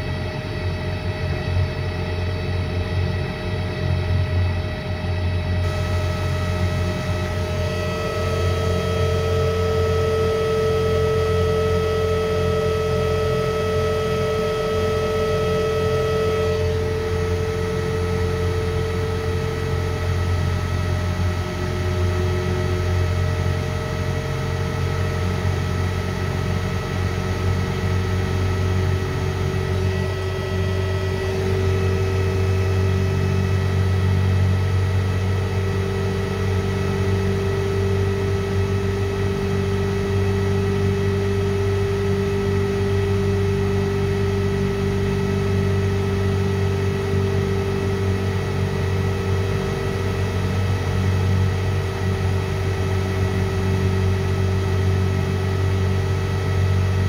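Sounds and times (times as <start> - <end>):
faint whining tones: 0.0 - 57.0
electric motor humming: 3.9 - 57.0.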